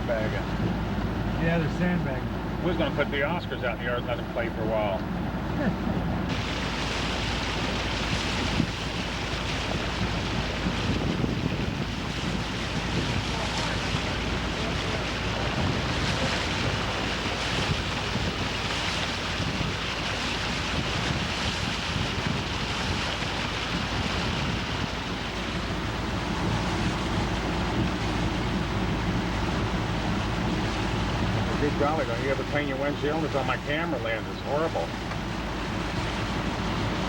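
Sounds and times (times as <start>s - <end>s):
steady rushing noise with rumble: 0.0s - 37.0s.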